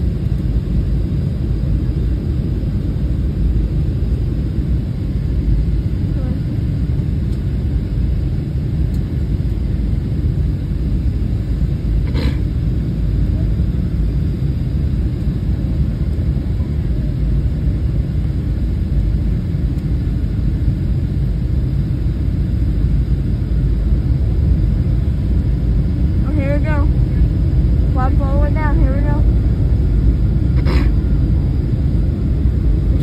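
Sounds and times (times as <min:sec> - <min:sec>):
jet engines rumbling in cabin: 0:00.0 - 0:33.0.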